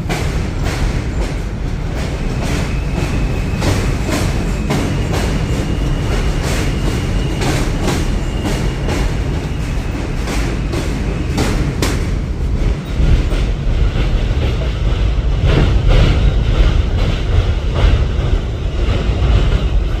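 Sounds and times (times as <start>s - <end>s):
subway train rumble: 0.0s - 20.0s.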